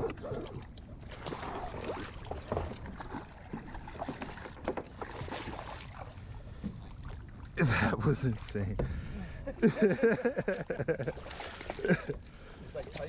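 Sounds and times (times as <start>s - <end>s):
water sloshing against hull: 0.0s - 13.0s.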